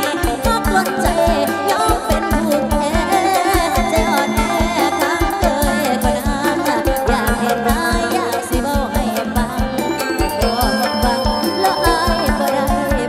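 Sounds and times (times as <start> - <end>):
drums beating fast: 0.0 - 13.0
pitch-bending lead melody: 0.0 - 13.0.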